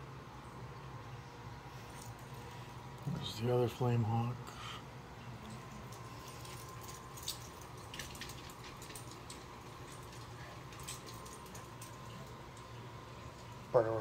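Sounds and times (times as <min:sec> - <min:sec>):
aquarium equipment hum: 0:00.0 - 0:14.0.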